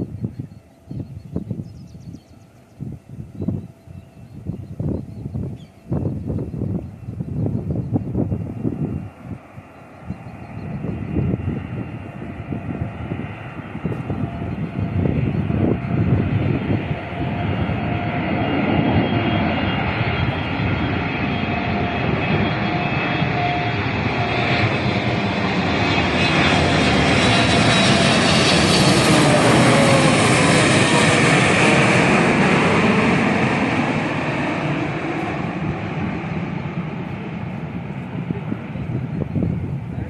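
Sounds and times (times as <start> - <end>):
high-pitched engine whine: 0.0 - 40.0
jet engines roaring overhead: 0.0 - 40.0.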